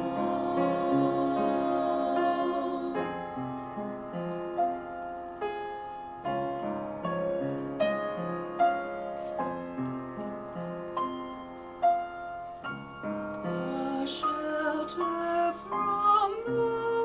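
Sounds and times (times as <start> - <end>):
gentle slow piano: 0.0 - 17.0.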